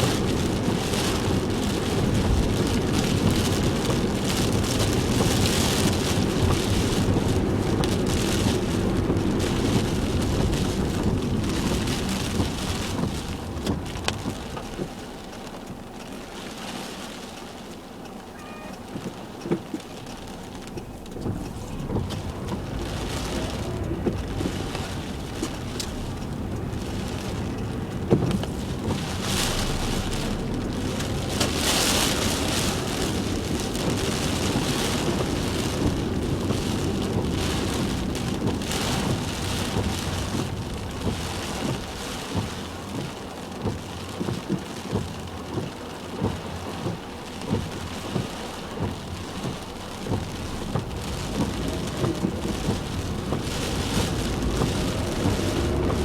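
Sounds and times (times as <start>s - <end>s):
heavy rain pelting a car: 0.0s - 56.0s.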